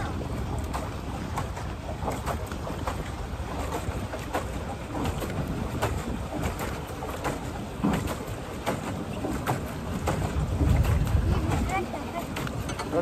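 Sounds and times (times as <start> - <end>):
water splashing against boat hull: 0.0 - 13.0
wind buffeting microphone: 0.0 - 13.0.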